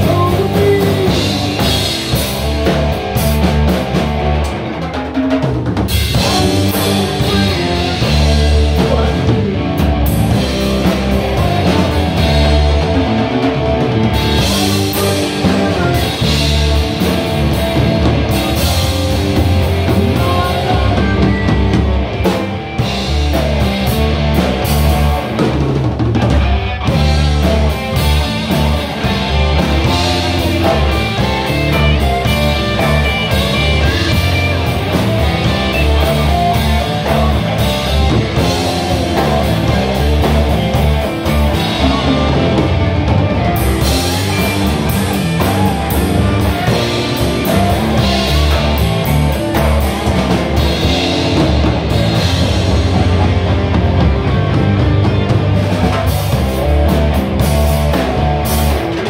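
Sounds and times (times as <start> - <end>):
electric guitar playing: 0.0 - 5.2, 5.8 - 59.0
rock drum kit: 0.0 - 59.0.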